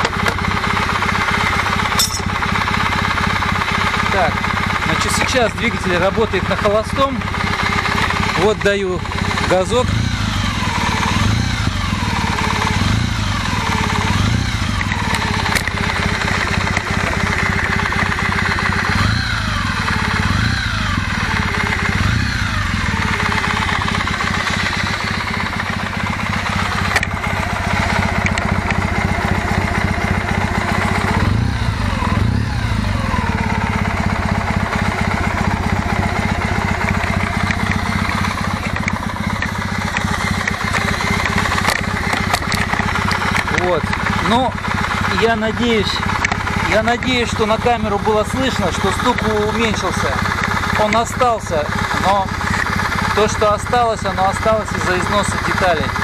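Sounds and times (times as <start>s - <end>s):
engine gear knock: 0.0s - 32.4s, 33.0s - 56.0s
motorcycle engine idling and revving: 0.0s - 56.0s.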